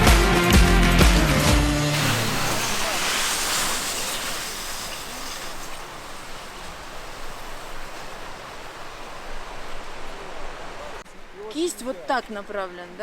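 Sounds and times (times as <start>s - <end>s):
wind blowing: 1.8s - 13.0s.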